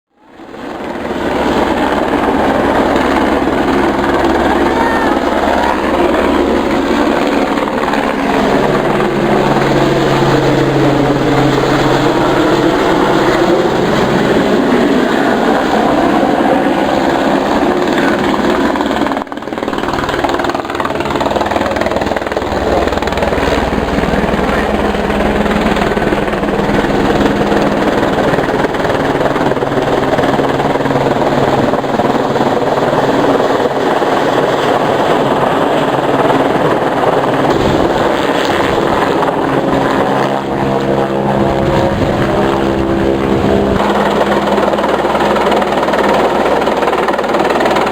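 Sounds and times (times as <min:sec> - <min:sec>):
helicopter flying overhead: 0:00.1 - 0:47.9.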